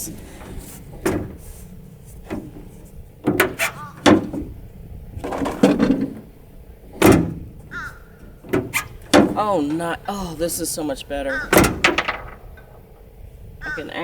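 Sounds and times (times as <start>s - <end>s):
latch clicks: 0.0s - 13.8s
tailgate metal clunks: 0.0s - 14.0s.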